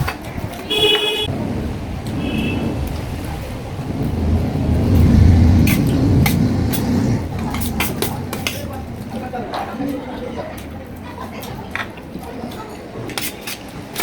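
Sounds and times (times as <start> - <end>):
vehicle engine rumble passing: 1.2 - 13.9.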